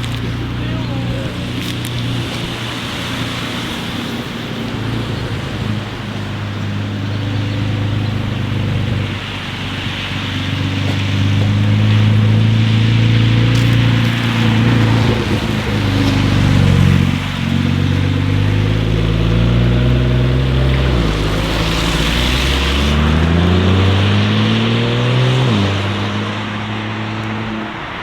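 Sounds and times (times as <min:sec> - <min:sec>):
car engine accelerating: 0:00.0 - 0:28.0
wind and road noise: 0:00.0 - 0:28.0.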